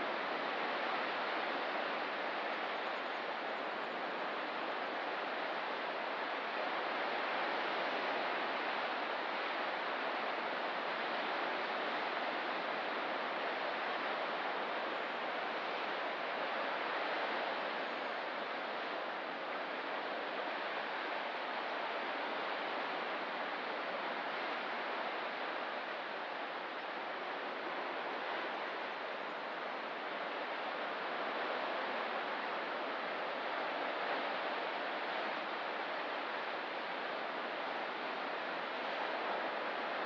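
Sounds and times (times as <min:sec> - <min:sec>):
distant ocean surf: 0:00.0 - 0:40.0.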